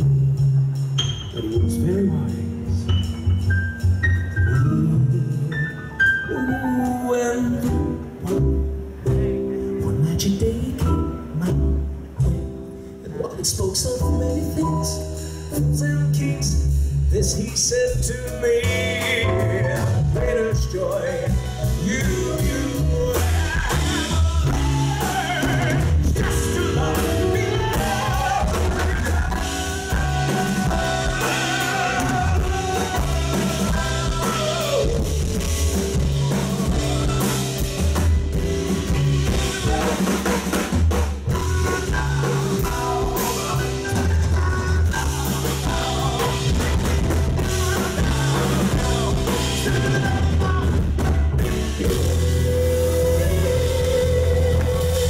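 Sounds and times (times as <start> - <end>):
jazz band playing: 0.0 - 55.0
man singing into a microphone: 1.2 - 3.0, 4.4 - 8.7, 9.8 - 11.9, 13.0 - 35.5, 39.3 - 40.4, 41.3 - 55.0.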